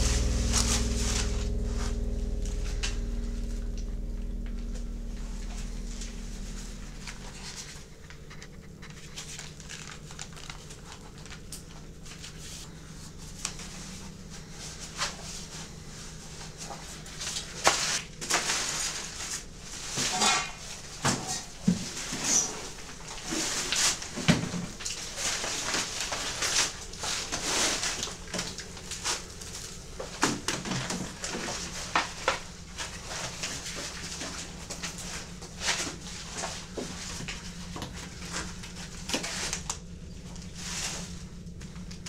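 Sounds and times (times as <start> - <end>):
low droning hum: 0.0 - 42.0.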